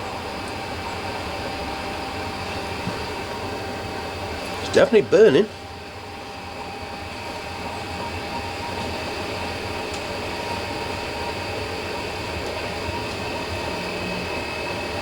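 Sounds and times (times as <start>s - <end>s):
heater fan whir and burner: 0.0s - 15.0s.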